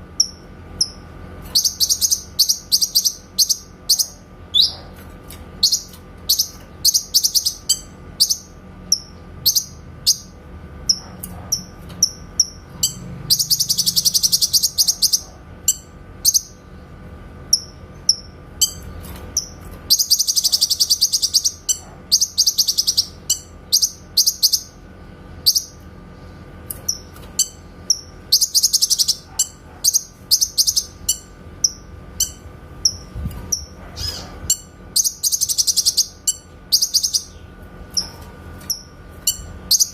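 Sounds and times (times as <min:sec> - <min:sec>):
songbird rattling trill: 0:00.2 - 0:04.8, 0:05.6 - 0:16.6, 0:17.5 - 0:24.8, 0:25.4 - 0:25.8, 0:26.7 - 0:39.9.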